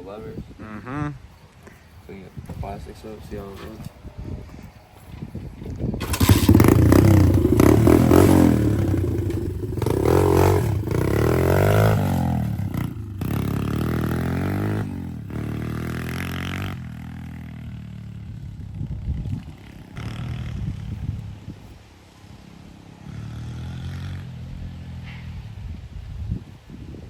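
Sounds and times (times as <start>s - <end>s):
dirt bike revving and pulling away: 5.2s - 27.0s.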